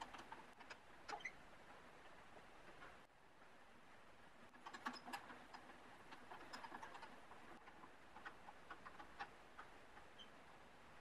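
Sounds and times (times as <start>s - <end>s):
faint small clicks and ticks: 0.0s - 3.1s, 4.4s - 10.7s.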